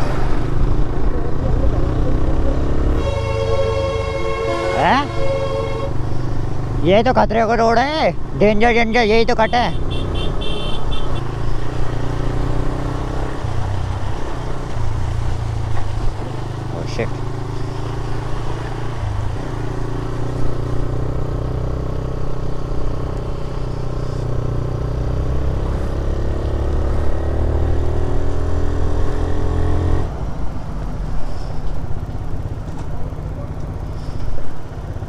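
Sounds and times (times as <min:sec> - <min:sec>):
road and wind rumble: 0:00.0 - 0:35.0
motorcycle engine running: 0:00.1 - 0:29.2, 0:29.8 - 0:35.0.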